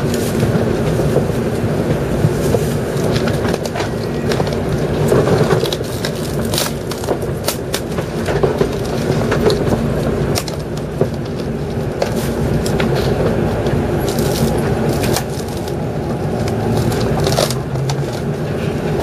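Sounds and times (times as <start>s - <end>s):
train cabin low rumble: 0.0s - 19.0s.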